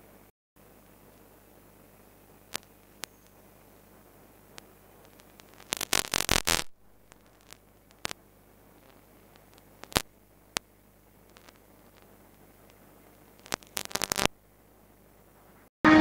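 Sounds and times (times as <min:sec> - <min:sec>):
faint steady hiss: 0:00.0 - 0:15.7
crackling clicks: 0:00.6 - 0:15.6.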